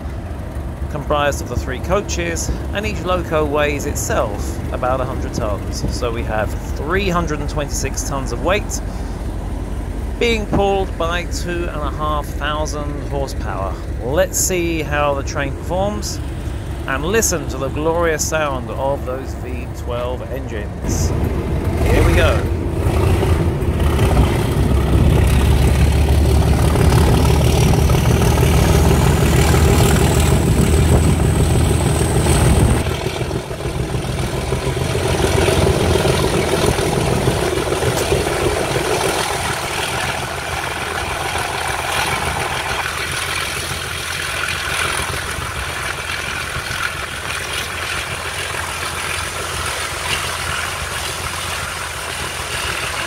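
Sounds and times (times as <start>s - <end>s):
high engine whine: 0.0s - 53.0s
locomotive diesel engine rumble: 0.0s - 53.0s.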